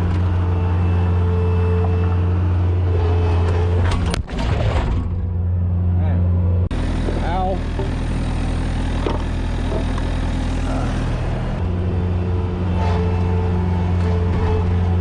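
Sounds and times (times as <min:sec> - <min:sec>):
skid steer engine running: 0:00.0 - 0:04.2, 0:04.9 - 0:15.0.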